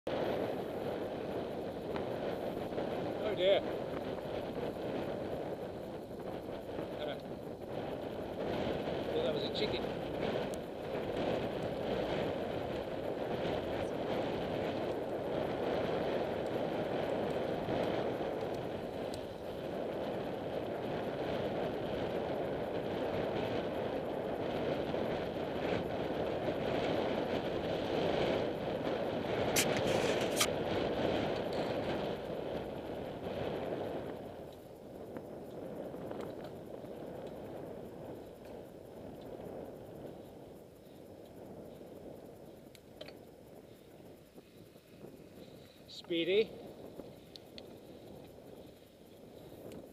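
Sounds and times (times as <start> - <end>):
bicycle tyres on tarmac: 0.1 - 49.9
wind rushing over microphone: 0.1 - 49.9.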